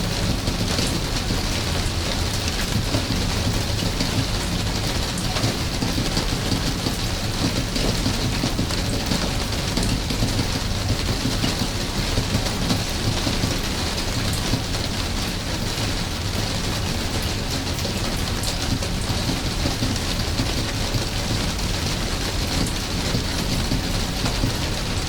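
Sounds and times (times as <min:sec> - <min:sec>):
raindrops ticking: 0:00.0 - 0:25.0
steady rain hiss: 0:00.0 - 0:25.0.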